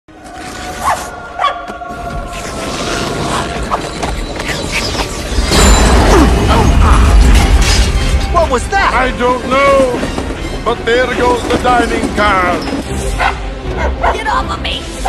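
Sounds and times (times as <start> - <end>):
film soundtrack music: 0.1 - 15.0.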